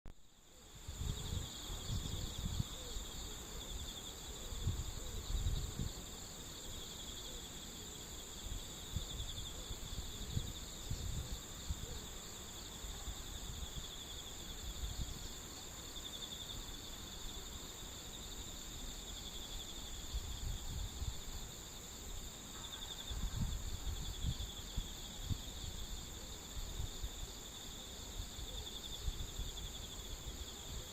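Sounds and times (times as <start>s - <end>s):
insects trilling: 0.2s - 30.9s.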